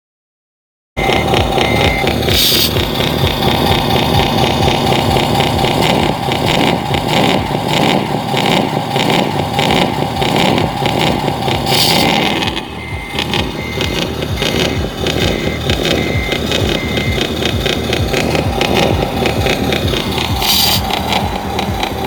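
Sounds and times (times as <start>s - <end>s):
model trucks engine drone: 1.0s - 22.0s.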